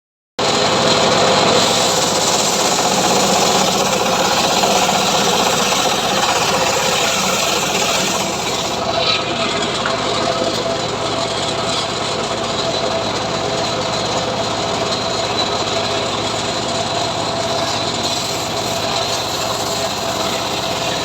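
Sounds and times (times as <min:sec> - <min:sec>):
sawmill engine and saw running: 0:00.4 - 0:21.0.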